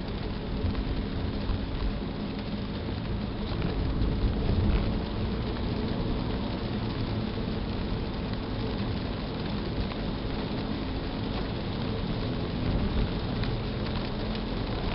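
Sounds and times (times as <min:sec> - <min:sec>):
road and engine rumble in car: 0:00.0 - 0:14.9.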